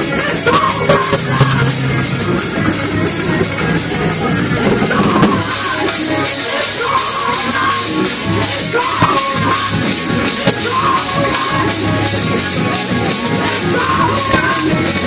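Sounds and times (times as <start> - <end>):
rock song with drums: 0.0 - 15.0.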